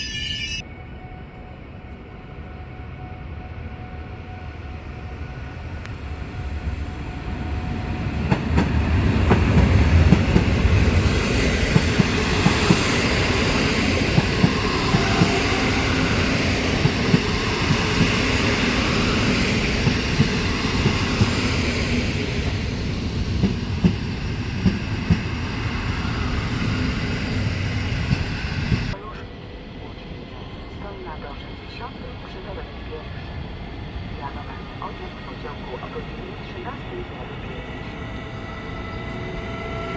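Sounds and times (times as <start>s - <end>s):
train passing: 0.0s - 39.9s.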